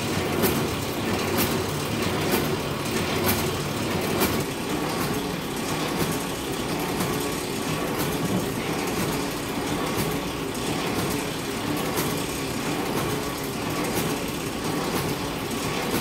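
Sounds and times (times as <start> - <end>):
machine clacking: 0.0 - 16.0
sewing machine whirring: 0.0 - 16.0.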